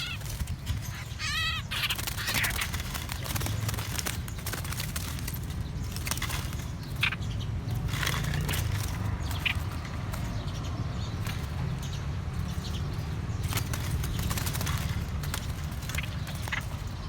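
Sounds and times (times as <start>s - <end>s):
caged birds chipping: 0.0s - 17.0s.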